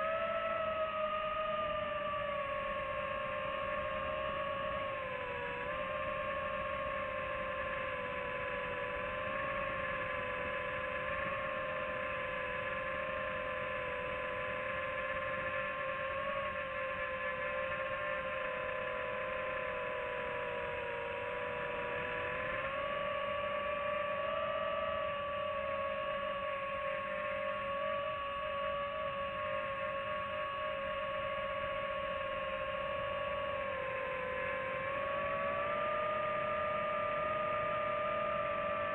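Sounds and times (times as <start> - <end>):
quadcopter motors whining: 0.0 - 38.9.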